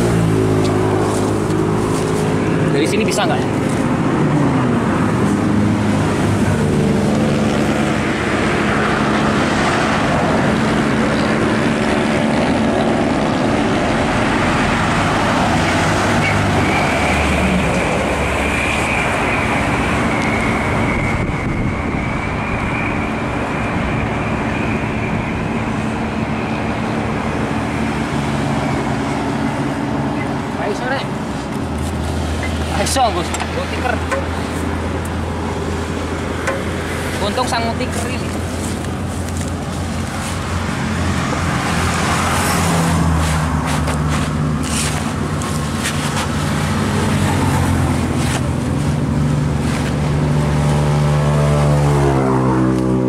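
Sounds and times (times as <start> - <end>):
high whine: 0.0 - 53.0
passing traffic: 0.0 - 53.0.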